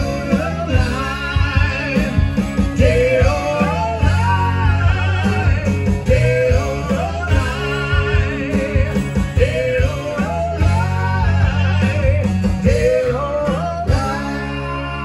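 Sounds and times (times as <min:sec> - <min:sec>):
man singing with vibrato: 0:00.0 - 0:15.0
strummed acoustic guitar: 0:00.0 - 0:15.0.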